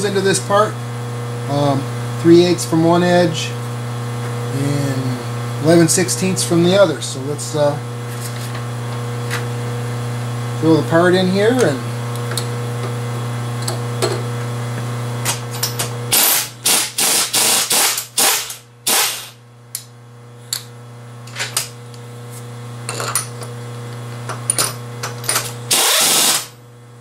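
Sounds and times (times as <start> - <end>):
milling machine humming: 0.0 - 19.4, 21.9 - 26.5.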